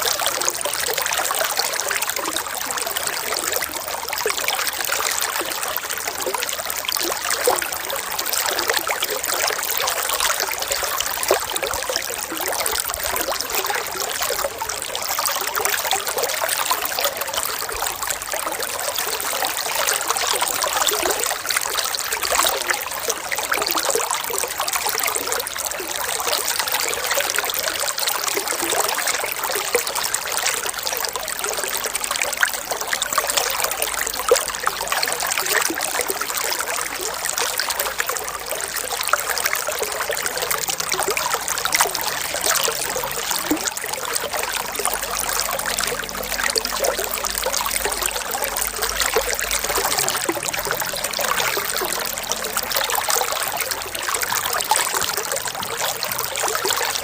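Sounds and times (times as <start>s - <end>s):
water trickling and bubbling: 0.0s - 57.0s.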